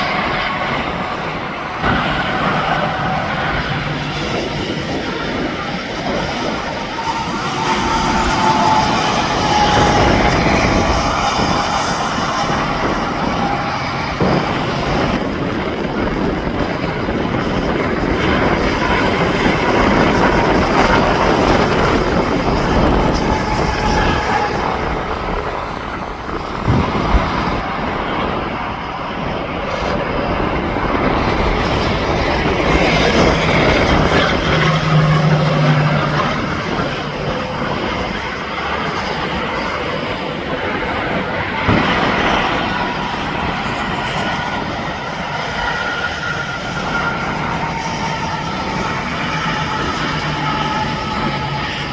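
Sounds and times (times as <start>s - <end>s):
highway traffic rushing by: 0.0s - 51.9s.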